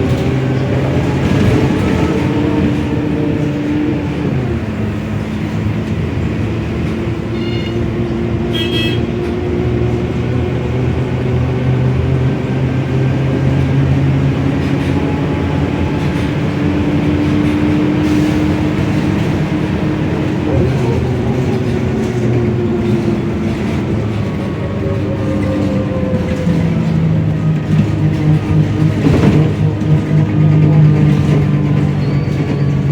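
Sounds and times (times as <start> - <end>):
bus diesel engine running: 0.0 - 32.9.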